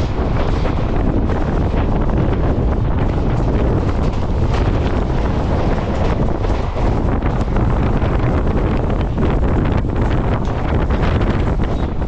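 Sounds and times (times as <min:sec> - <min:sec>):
train rumbling on track: 0:00.0 - 0:12.0
wind buffeting microphone: 0:00.0 - 0:12.0.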